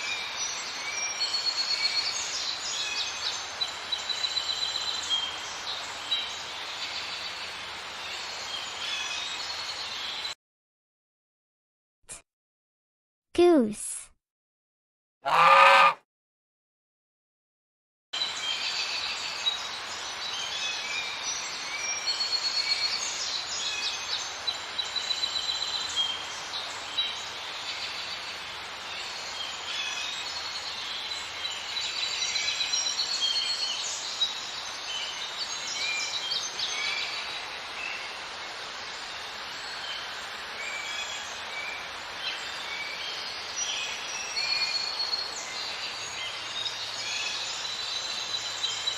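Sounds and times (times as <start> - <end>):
outdoor background hiss: 0.0 - 10.3, 18.2 - 48.9
songbirds chirping: 0.0 - 10.4, 18.2 - 48.9.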